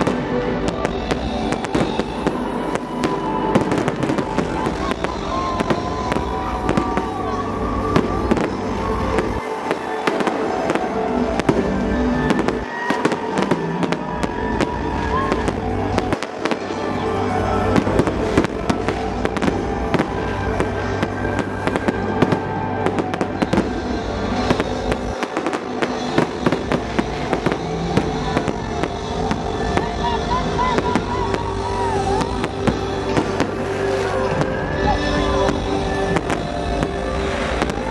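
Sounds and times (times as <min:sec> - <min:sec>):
fireworks banging and crackling: 0:00.0 - 0:37.9
music playing: 0:00.0 - 0:37.9.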